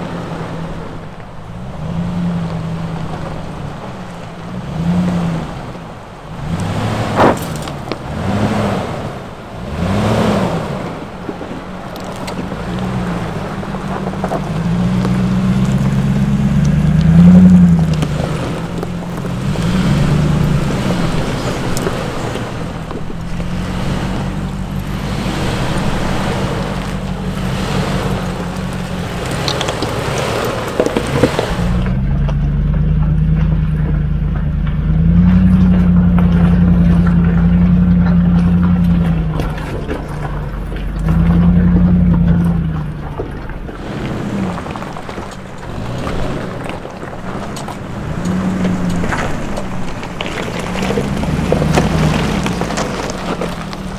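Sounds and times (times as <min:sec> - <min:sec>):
engine revving at low speed: 0:00.0 - 0:53.9.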